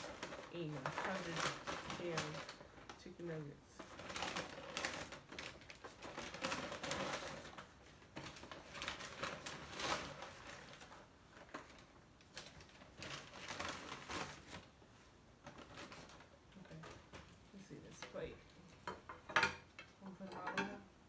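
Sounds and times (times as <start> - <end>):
paper bags rustling: 0.0 - 18.8.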